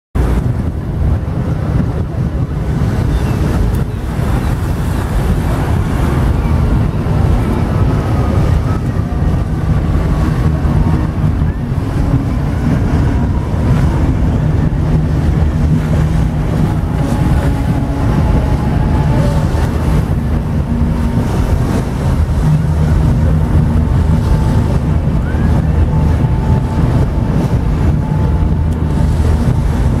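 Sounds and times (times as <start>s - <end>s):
boat running: 0.2s - 30.0s
water noise: 0.2s - 30.0s
wind noise on microphone: 0.2s - 30.0s.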